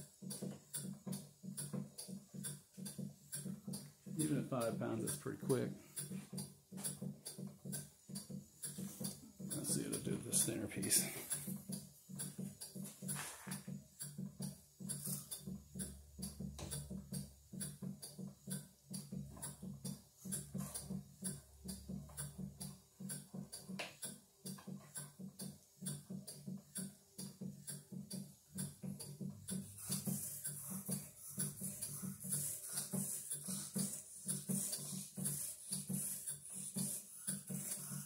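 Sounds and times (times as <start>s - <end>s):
steam engine exhaust puffing: 0.0s - 38.0s.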